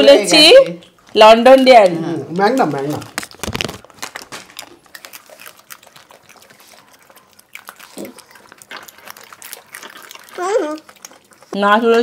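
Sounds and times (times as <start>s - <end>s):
people eating ice cream: 0.0s - 12.0s.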